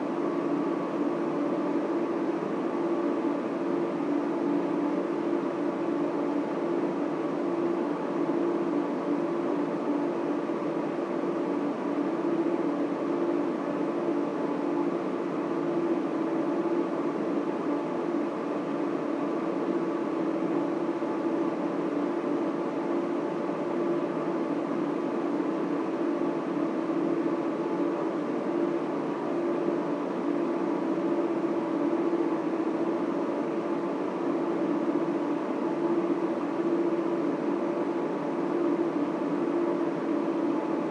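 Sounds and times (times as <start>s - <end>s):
constant low hum: 0.0s - 40.9s
server and cooling fans: 0.0s - 40.9s.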